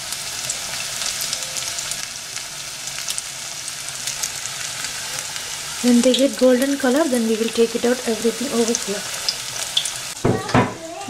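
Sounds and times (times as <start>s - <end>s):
batter balls deep-frying in oil: 0.0s - 11.0s.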